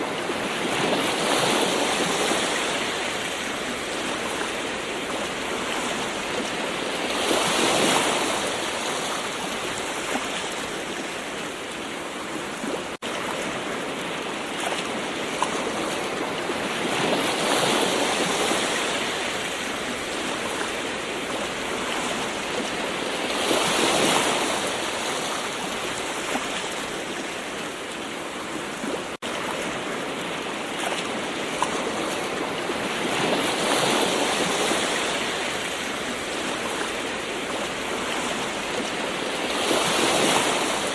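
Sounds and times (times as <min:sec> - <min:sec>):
ocean waves washing onto shore: 0:00.0 - 0:40.9.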